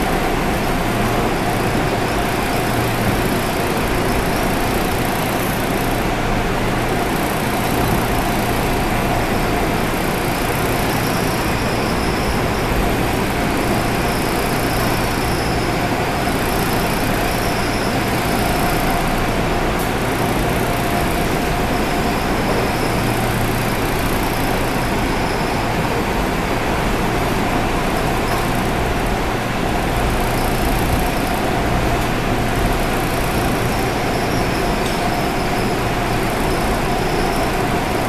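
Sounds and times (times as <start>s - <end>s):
constant train whine: 0.0s - 38.0s
train wheels rumbling on rail: 0.0s - 38.0s.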